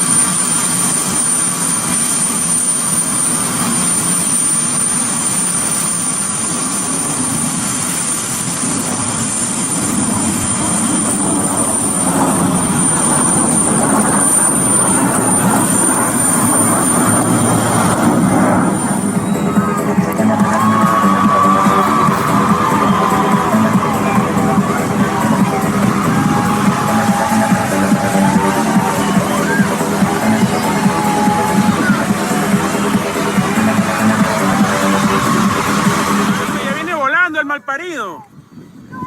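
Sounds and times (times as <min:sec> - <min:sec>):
airplane engine rumble: 0:00.0 - 0:36.9
high whine: 0:00.0 - 0:37.4.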